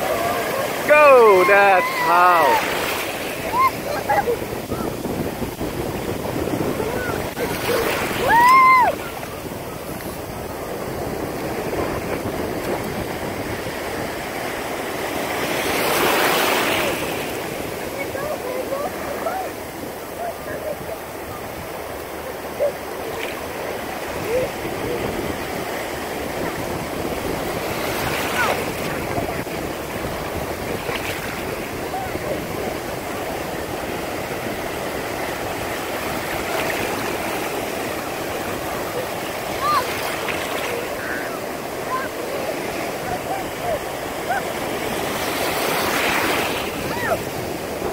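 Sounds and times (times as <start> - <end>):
surf washing at shoreline: 0.0 - 47.9
wave breaking: 0.0 - 47.9.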